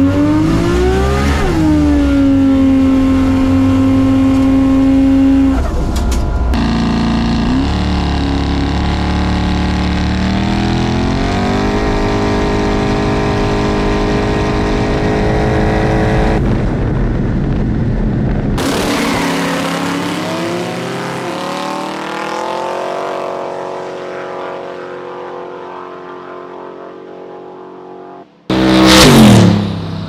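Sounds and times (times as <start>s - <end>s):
turbocharged engines revving: 0.0s - 16.5s, 18.6s - 30.0s.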